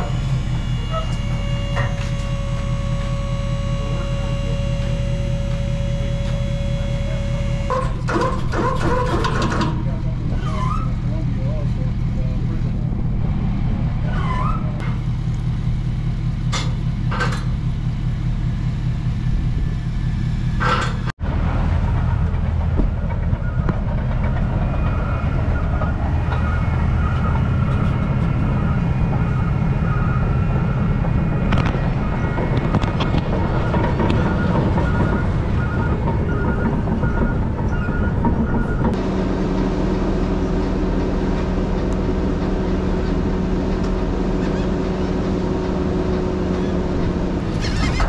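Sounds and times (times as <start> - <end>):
heavy truck engine rumbling: 0.0 - 48.0.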